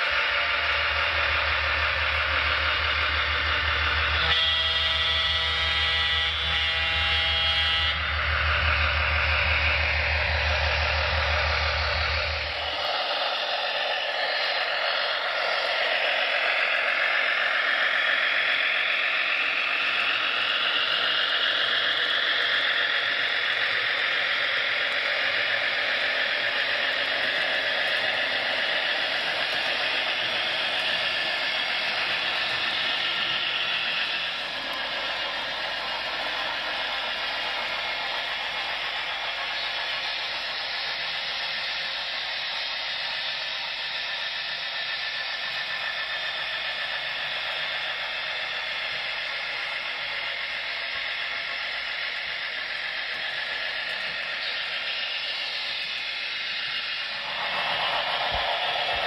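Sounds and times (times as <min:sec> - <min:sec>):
low hum: 0:00.0 - 0:59.0
model train rolling on track: 0:00.0 - 0:59.0.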